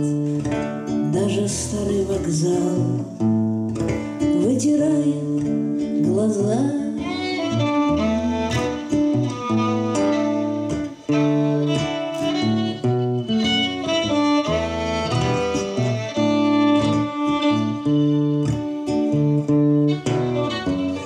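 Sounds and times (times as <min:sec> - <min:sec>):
acoustic guitar: 0:00.0 - 0:21.0
violin melody: 0:00.0 - 0:21.0.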